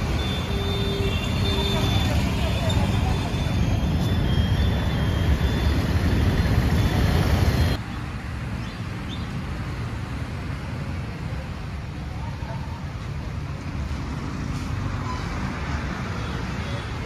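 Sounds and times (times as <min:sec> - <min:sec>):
heavy traffic rumble: 0:00.0 - 0:17.0.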